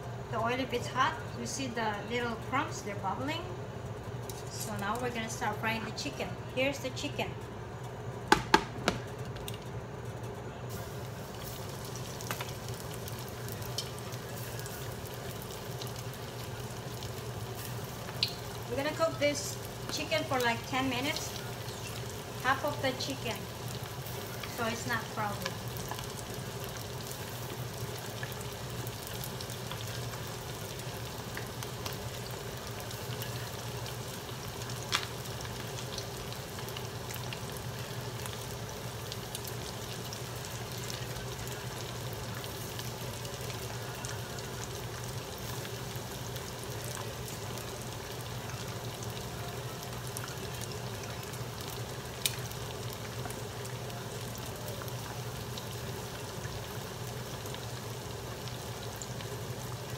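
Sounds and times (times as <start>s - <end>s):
chicken wings sizzling in oil: 0.0s - 59.9s.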